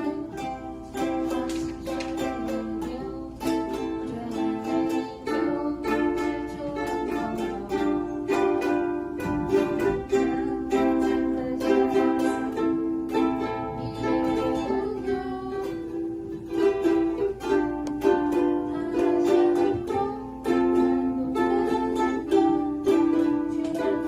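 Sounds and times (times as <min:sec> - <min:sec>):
ukulele strumming: 0:00.0 - 0:24.0.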